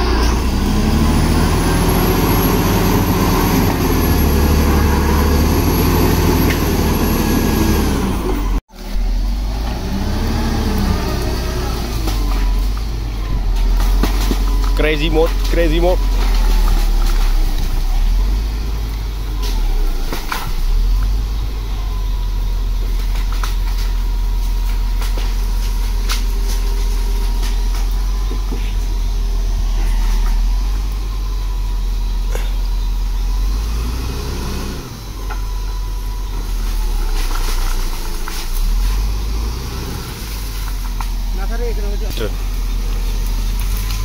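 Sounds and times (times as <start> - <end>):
bulldozer diesel engine running: 0.0 - 44.0.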